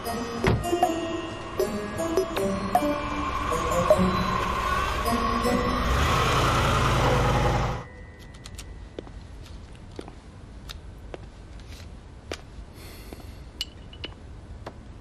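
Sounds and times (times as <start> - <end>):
street noise: 0.6 - 15.0.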